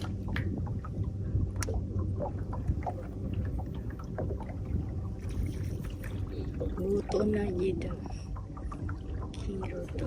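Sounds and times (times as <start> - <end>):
boat engine low hum: 0.0 - 10.0
wind: 0.0 - 10.0.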